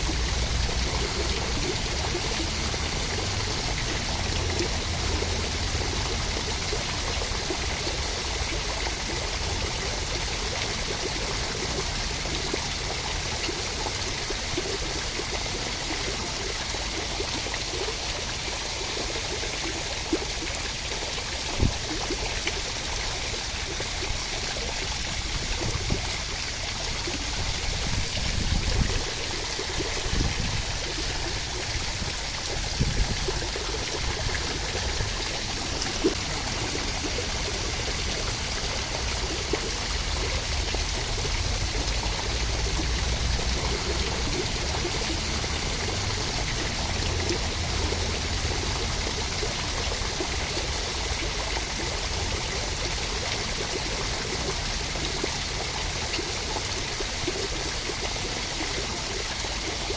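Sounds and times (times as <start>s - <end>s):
steady rain: 0.0s - 59.8s.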